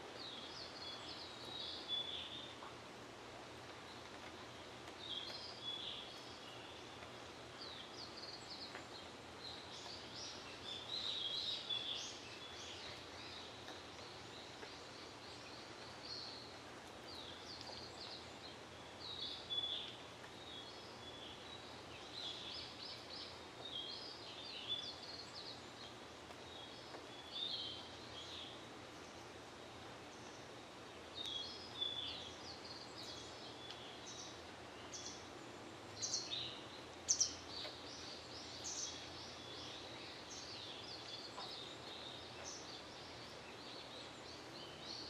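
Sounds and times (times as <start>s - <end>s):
faint outdoor hiss: 0.0s - 45.0s
small songbirds chirping: 0.0s - 45.0s.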